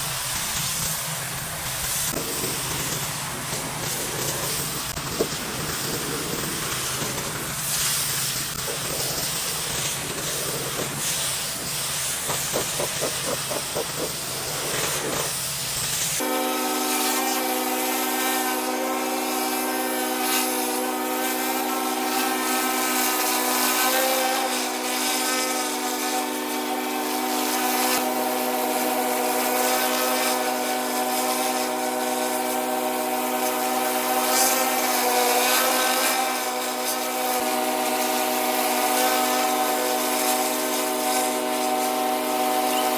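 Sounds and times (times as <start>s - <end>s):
pressure washer spraying concrete: 0.0s - 42.9s
steady machine drone: 0.0s - 42.9s.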